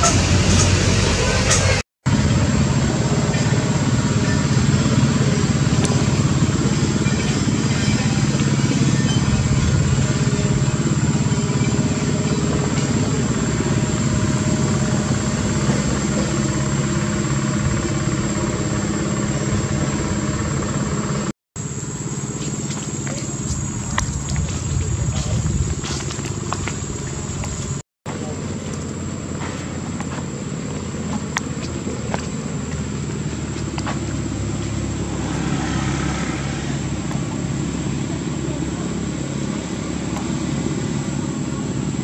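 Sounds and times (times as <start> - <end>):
engine humming with high whine: 0.0 - 42.0.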